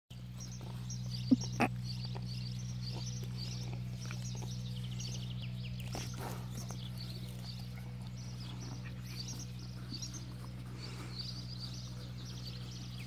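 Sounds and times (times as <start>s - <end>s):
small birds chirping: 0.1s - 13.0s
steady low hum: 0.1s - 13.0s.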